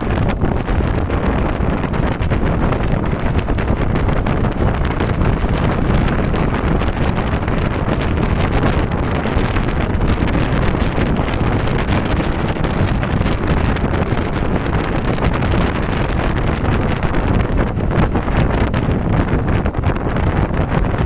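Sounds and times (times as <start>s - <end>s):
steady rain falling: 0.0s - 21.0s
wind rumble on microphone: 0.0s - 21.0s.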